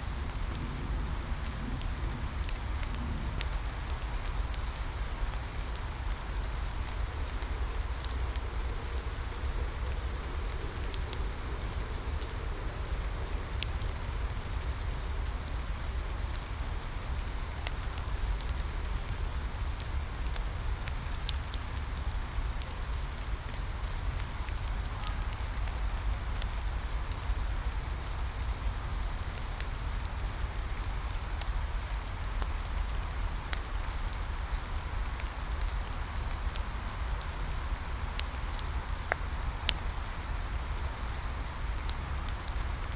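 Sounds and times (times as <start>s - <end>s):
bonfire crackling: 0.0s - 42.9s
rain falling: 0.0s - 42.9s.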